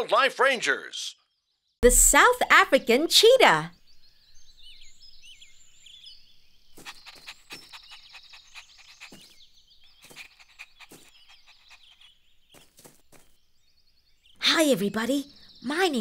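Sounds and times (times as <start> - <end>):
birds chirping: 0.6 - 16.0.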